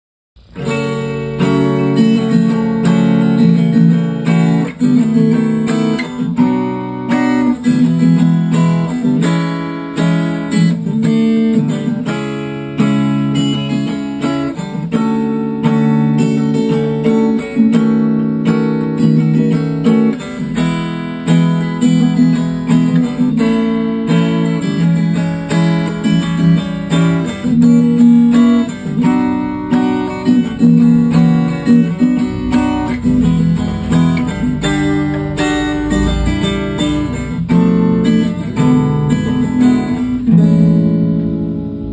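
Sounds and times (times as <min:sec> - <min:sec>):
acoustic guitar strumming: 0:00.4 - 0:41.9.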